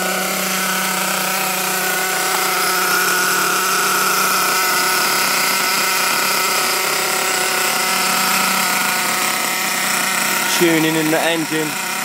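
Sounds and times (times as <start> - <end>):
small engine buzzing: 0.0 - 12.0.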